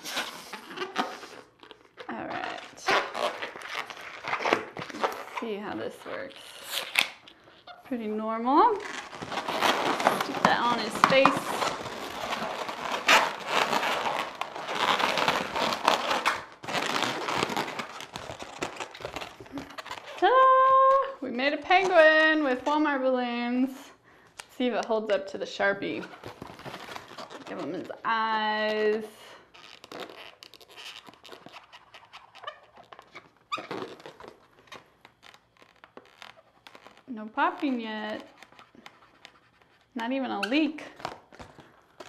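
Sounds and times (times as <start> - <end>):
rubber balloons squeaking: 0.0 - 23.0, 25.8 - 42.0.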